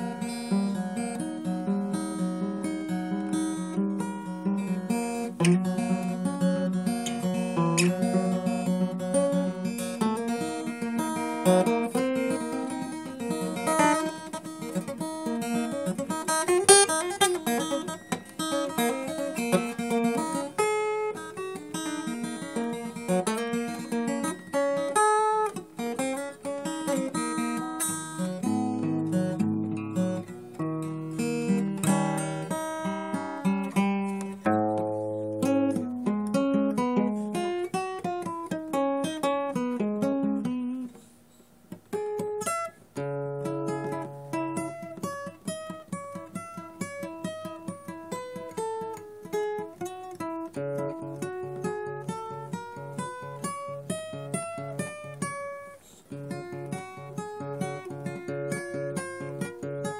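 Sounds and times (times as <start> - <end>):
acoustic guitar melody: 0.0 - 59.9.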